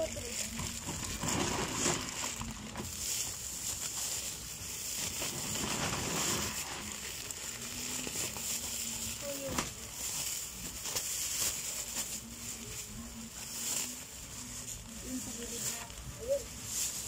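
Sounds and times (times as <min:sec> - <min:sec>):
plastic bags rustling and crinkling: 0:00.0 - 0:17.0.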